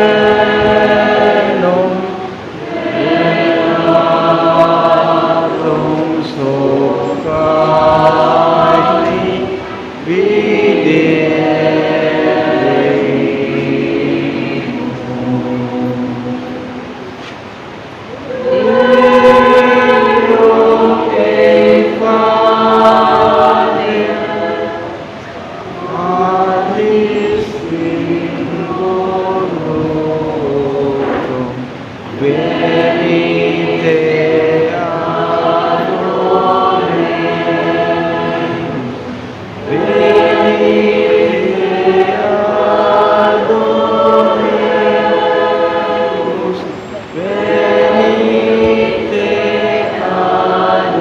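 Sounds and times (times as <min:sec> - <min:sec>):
church choir singing: 0:00.0 - 0:51.0.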